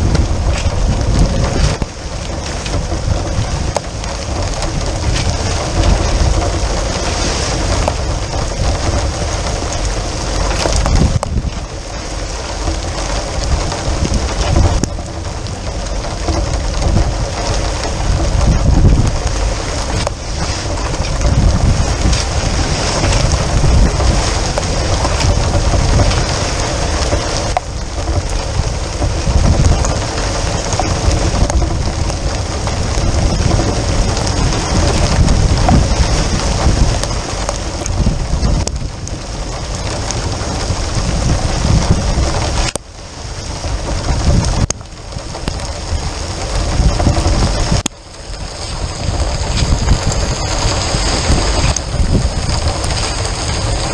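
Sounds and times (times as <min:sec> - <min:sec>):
deep thunder rumble: 0:00.0 - 0:53.9
heavy rain hiss: 0:00.0 - 0:53.9.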